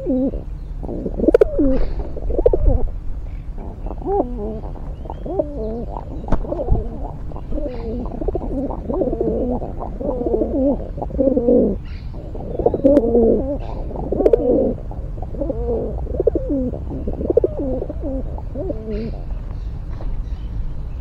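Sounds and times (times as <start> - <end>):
pigeons cooing: 0.0 - 20.2.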